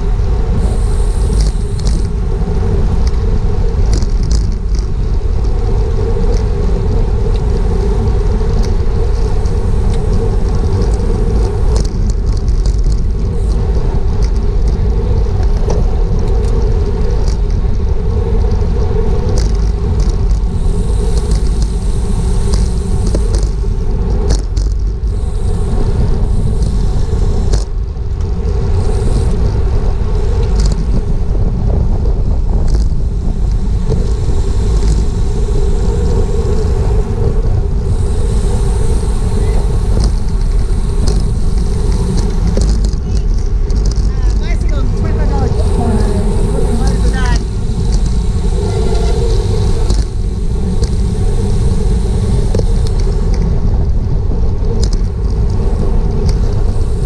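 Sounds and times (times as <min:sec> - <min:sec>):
steady hum: 0:00.0 - 0:57.0
wind rumble on microphone: 0:00.0 - 0:57.0.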